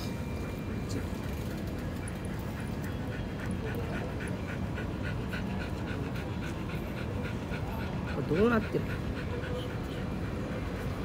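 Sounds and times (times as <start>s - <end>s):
dog panting quickly: 1.7s - 11.0s.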